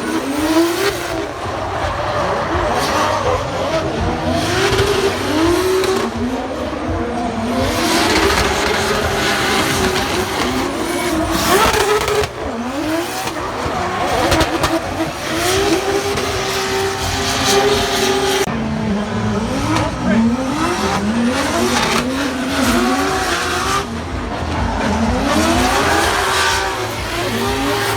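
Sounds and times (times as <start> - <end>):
car engine revving hard: 0.0 - 27.9.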